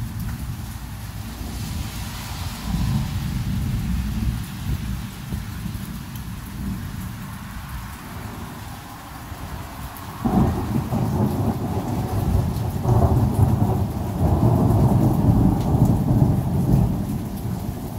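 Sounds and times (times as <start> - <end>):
thunder rumbling: 0.0 - 7.1, 9.4 - 17.9
steady rain: 0.0 - 17.9.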